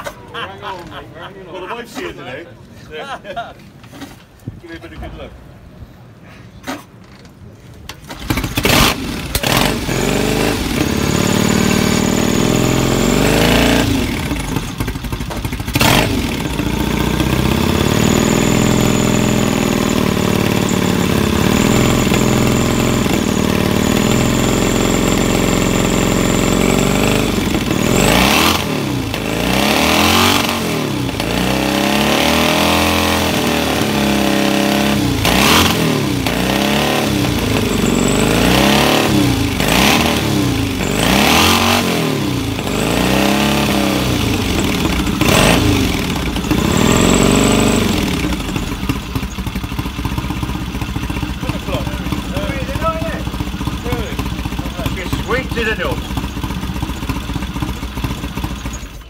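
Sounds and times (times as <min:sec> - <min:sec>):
engine crack: 0:06.6 - 0:59.0
motorcycle engine running and revving: 0:08.1 - 0:59.0.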